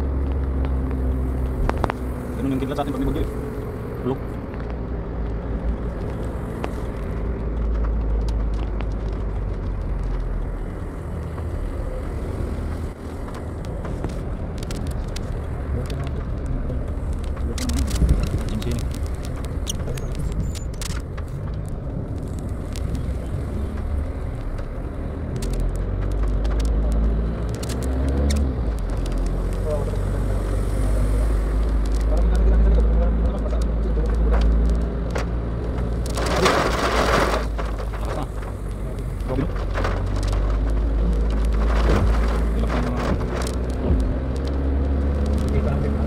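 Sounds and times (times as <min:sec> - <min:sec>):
car cabin road rumble: 0:00.0 - 0:46.0.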